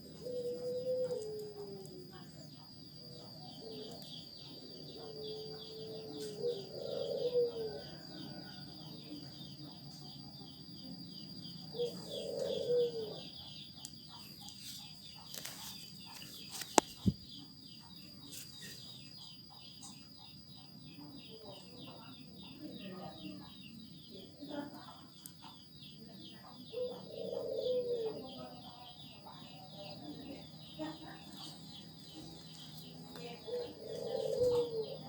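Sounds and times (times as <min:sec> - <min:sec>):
dove cooing: 0:00.0 - 0:20.3, 0:21.2 - 0:35.0.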